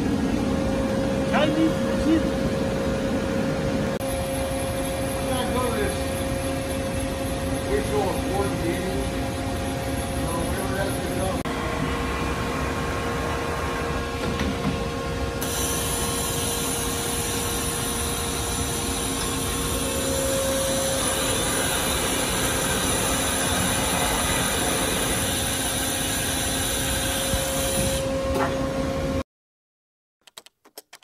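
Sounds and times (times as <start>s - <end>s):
shop machinery hum and whine: 0.0s - 29.2s.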